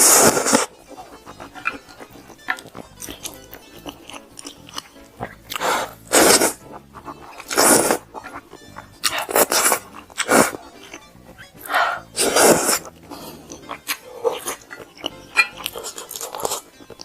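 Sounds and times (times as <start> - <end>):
faint background music: 0.0 - 17.0
loud bites and mouth noises: 0.0 - 17.0
soft chewing: 0.0 - 17.0.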